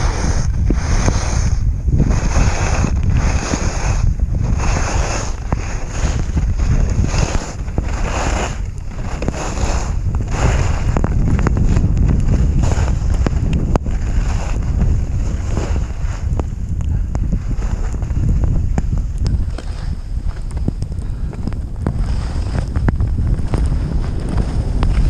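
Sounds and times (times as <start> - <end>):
skis hissing through snow: 0.0 - 16.6, 17.4 - 20.4, 21.9 - 22.8
wind buffeting microphone: 0.0 - 25.0.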